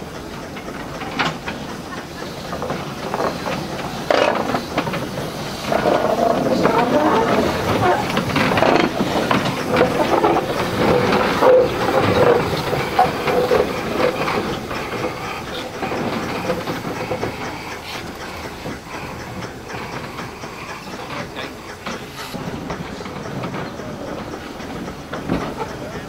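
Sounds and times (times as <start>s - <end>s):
steam hissing: 0.0s - 26.0s
steam locomotive exhaust chuffing: 0.0s - 26.0s
wheels clattering on rail: 0.0s - 26.0s.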